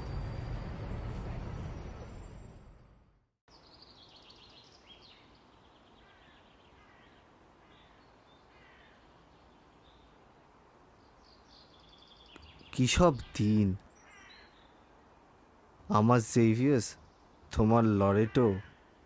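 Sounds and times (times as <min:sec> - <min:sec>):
faint outdoor ambience: 0:00.0 - 0:19.0
small birds chirping: 0:03.5 - 0:19.0.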